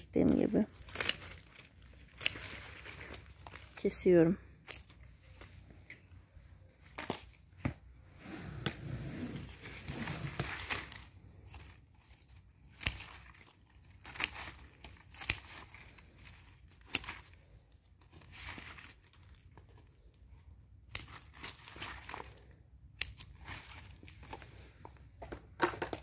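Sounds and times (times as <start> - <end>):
leaves and stems rustling: 0.0 - 7.4, 9.4 - 20.0, 20.8 - 24.9.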